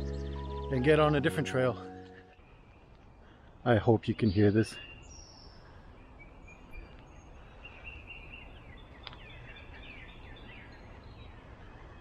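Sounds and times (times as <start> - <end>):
birds singing and calling: 0.0 - 12.0.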